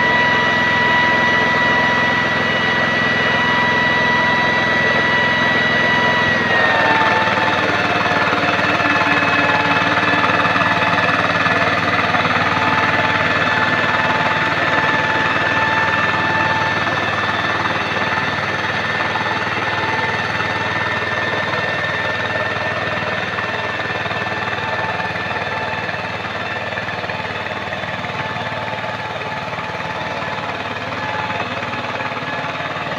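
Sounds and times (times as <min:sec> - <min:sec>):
diesel engine chugging: 0:00.0 - 0:32.9
steady high whine: 0:00.0 - 0:32.9.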